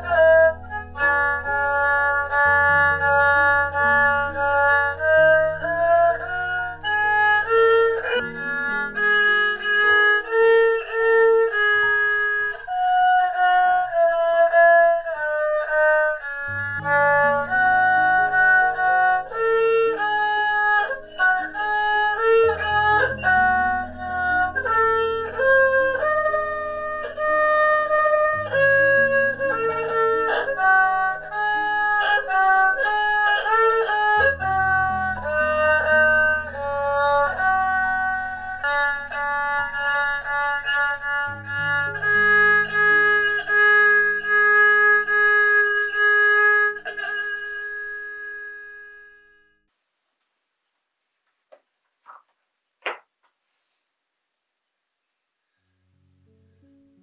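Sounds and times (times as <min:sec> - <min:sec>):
bowed string melody: 0:00.0 - 0:49.6
low sustained accompaniment notes: 0:00.0 - 0:49.6.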